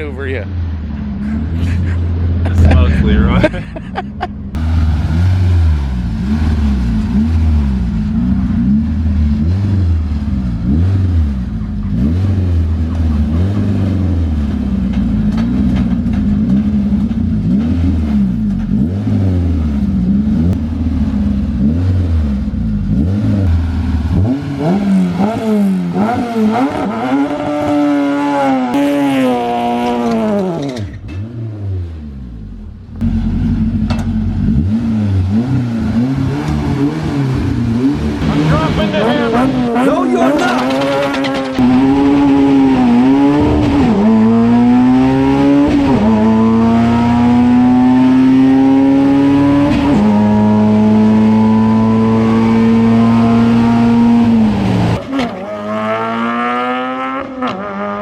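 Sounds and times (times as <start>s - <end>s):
truck engine revving: 0.9s - 58.0s.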